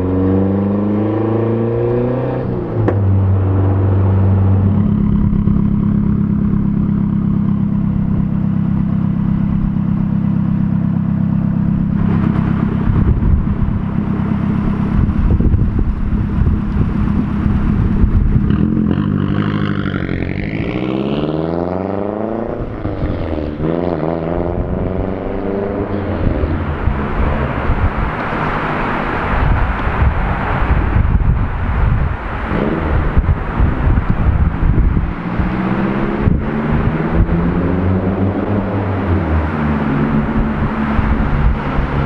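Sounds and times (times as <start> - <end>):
car exhaust accelerating: 0.0 - 42.0.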